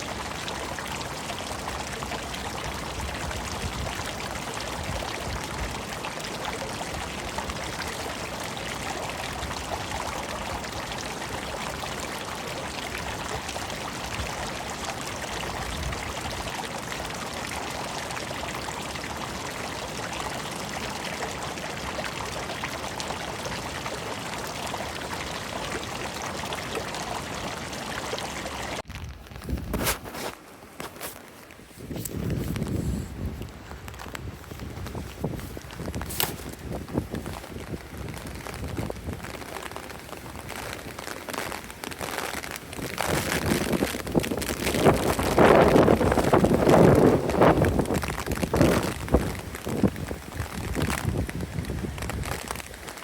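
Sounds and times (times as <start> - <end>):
running water: 0.0 - 53.0.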